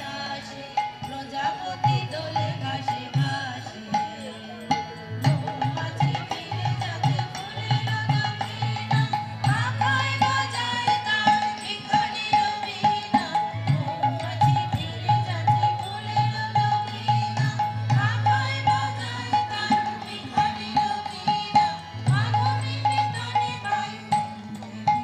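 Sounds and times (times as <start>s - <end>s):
ringing tabla strokes: 0.0s - 25.0s.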